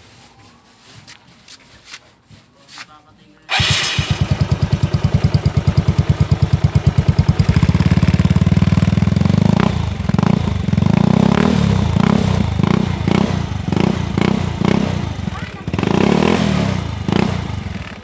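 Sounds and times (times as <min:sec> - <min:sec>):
scooter engine idling and revving: 0:03.5 - 0:18.0.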